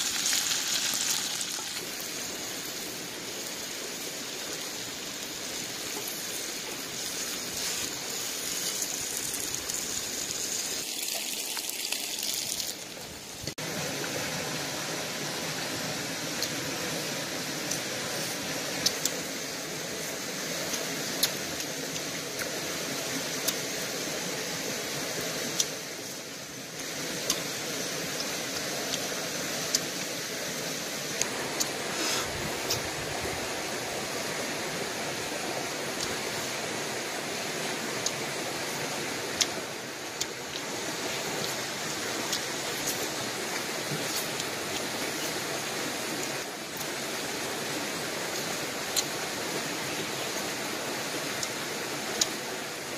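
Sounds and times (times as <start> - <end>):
stream rushing: 0.0 - 52.9.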